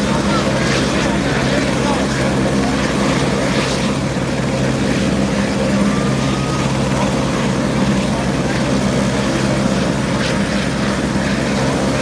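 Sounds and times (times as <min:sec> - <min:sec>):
helicopter turbine whine: 0:00.0 - 0:12.0
rotor blades beating: 0:00.0 - 0:12.0.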